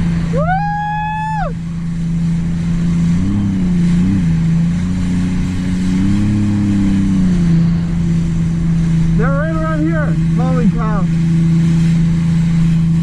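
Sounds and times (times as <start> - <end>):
watercraft engine running: 0.0 - 13.0.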